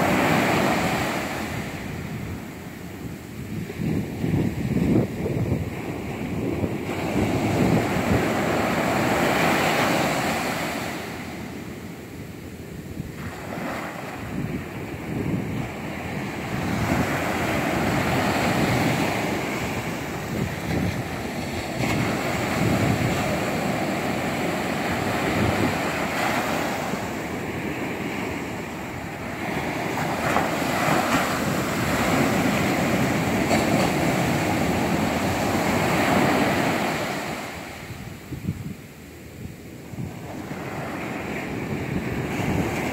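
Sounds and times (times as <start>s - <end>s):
ocean surf breaking: 0.0s - 38.3s, 39.9s - 42.9s.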